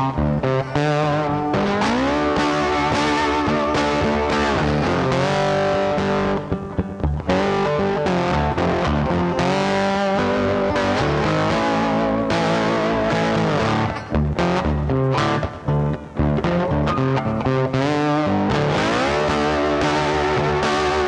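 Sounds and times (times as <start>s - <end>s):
bass: 0.0s - 21.0s
distorted electric guitar music: 0.0s - 21.0s.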